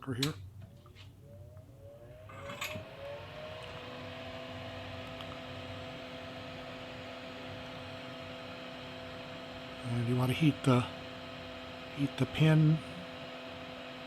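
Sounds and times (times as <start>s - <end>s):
extractor fan motor whirring: 0.9s - 14.0s.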